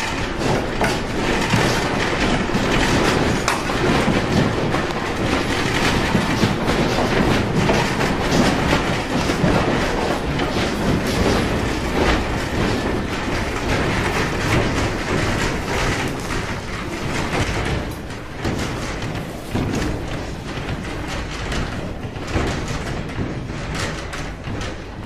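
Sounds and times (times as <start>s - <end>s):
building rattling in earthquake: 0.0s - 25.0s.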